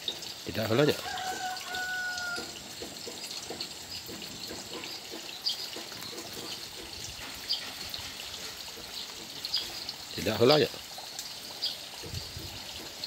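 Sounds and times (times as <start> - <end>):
water trickling into pond: 0.0 - 13.0.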